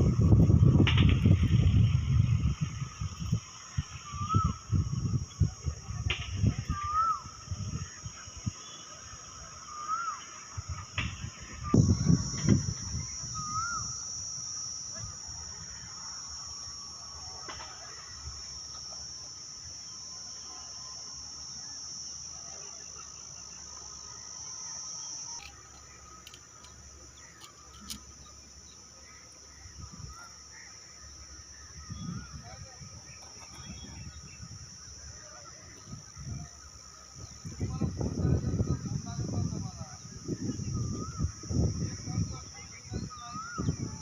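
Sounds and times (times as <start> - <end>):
high-pitched insect drone: 0.0 - 44.0
faint wavering bird calls: 2.9 - 5.4, 6.6 - 38.9, 39.9 - 44.0.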